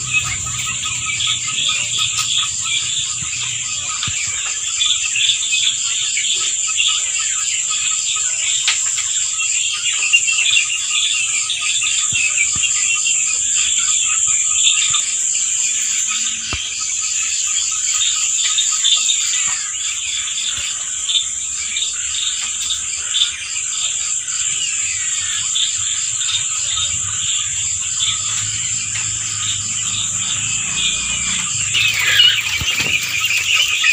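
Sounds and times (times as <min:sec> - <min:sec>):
insects chirping pulse: 0:00.0 - 0:33.9
insects trilling: 0:00.0 - 0:33.9.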